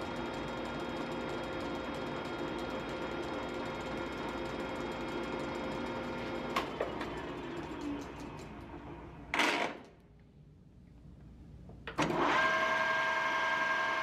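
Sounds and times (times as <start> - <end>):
lathe whirring: 0.0 - 9.7, 12.0 - 14.0.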